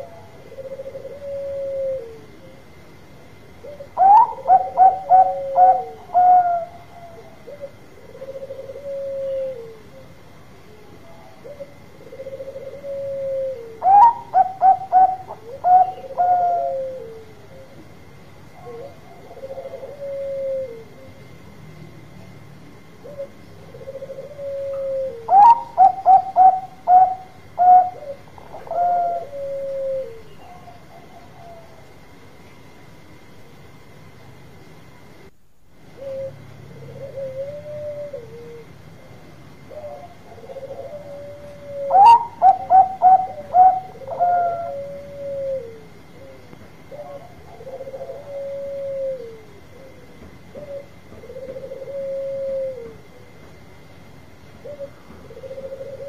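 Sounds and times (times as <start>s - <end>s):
dove singing: 0.0s - 33.2s, 35.9s - 56.0s.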